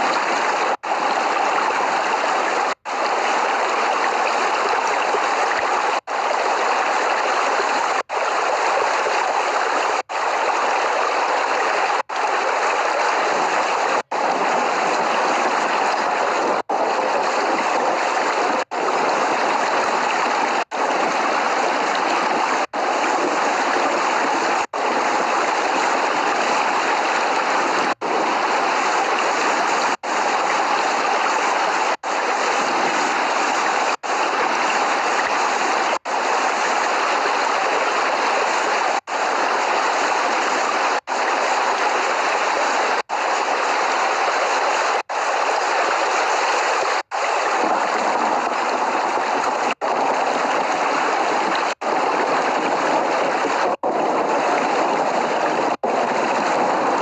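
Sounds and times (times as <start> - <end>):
dense rain: 0.0 - 57.0.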